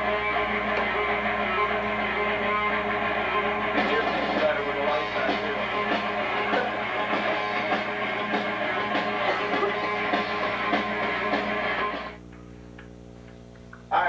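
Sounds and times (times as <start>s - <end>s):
rock music with electric guitar: 0.0s - 12.2s.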